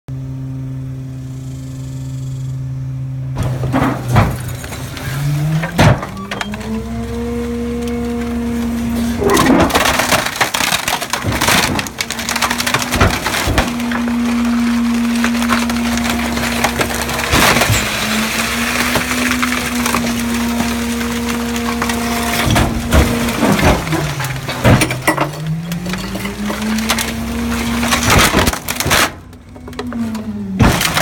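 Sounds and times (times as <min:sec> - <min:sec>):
truck mechanical hum: 0:00.1 - 0:31.0
wood cracking and splintering: 0:03.4 - 0:31.0.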